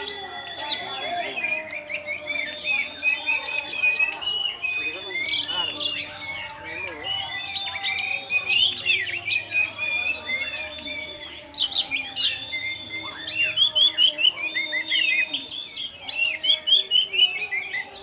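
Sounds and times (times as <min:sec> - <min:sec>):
thrush singing whistles and chirps: 0:00.0 - 0:18.0.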